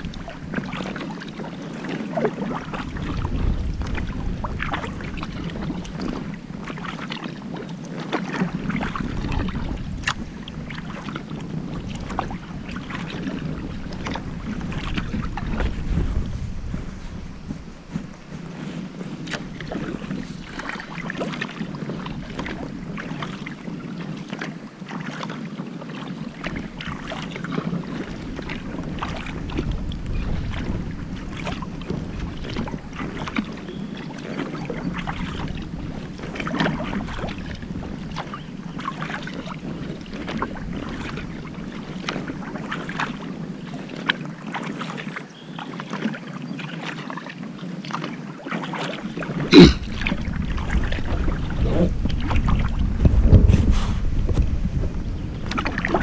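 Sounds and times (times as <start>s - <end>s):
paddle blades splashing water: 0.0s - 56.0s
wind rumble on microphone: 0.0s - 56.0s.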